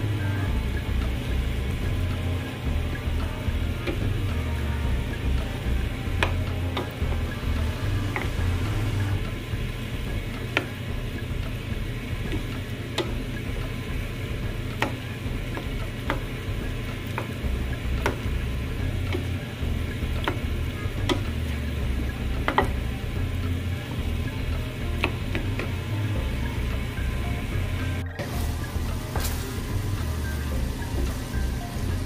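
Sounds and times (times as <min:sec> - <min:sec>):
wooden spatula stirring noodles in pan: 0:00.0 - 0:32.0
spatula knocking against pan: 0:00.5 - 0:29.5.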